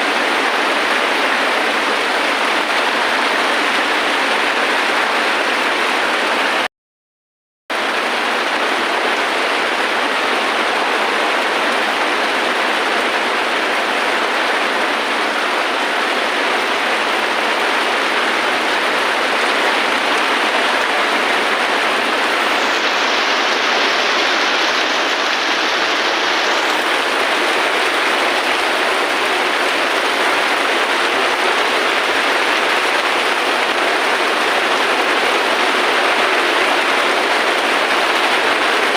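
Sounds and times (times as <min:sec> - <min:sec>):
heavy rain: 0:00.0 - 0:06.7, 0:07.7 - 0:38.9.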